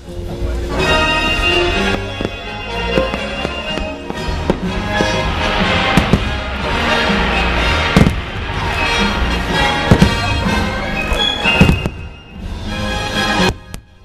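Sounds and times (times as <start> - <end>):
music soundtrack: 0.0 - 14.0
fireworks bangs: 1.2 - 13.9.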